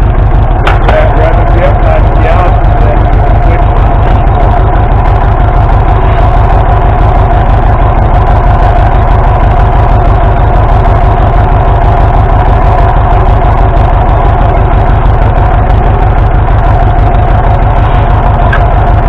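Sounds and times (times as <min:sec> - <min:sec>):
tractor engine misfiring: 0:00.0 - 0:19.0.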